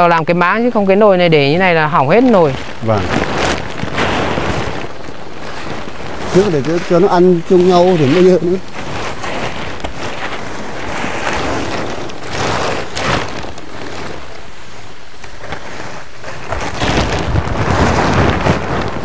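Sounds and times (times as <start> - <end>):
wind buffeting microphone: 0.2 - 19.0.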